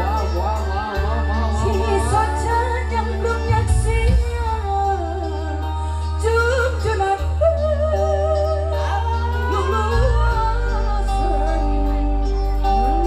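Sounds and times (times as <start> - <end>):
deep bass: 0.0 - 13.0
live band playing: 0.0 - 13.0
woman singing: 0.0 - 13.0.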